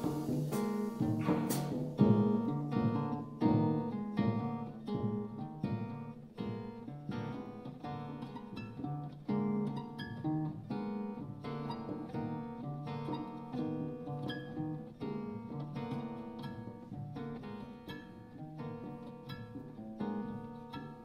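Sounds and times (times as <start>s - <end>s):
electric guitar playing jazz chords: 0.0s - 21.0s.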